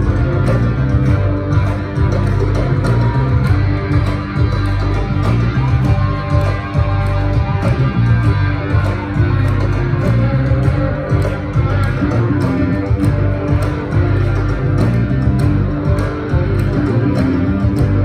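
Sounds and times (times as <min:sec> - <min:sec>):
electric guitars: 0:00.0 - 0:18.0
hand-clapping: 0:00.0 - 0:18.0
live band playing: 0:00.0 - 0:18.0.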